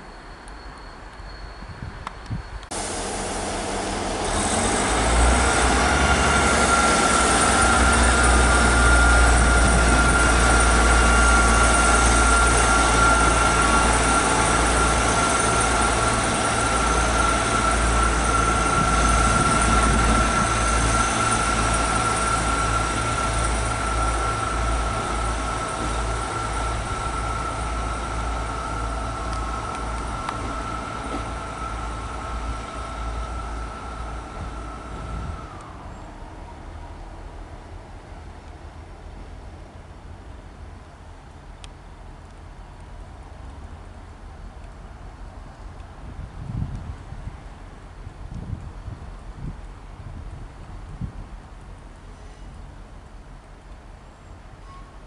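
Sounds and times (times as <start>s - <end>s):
diesel train rumble and whine: 0.0s - 55.0s.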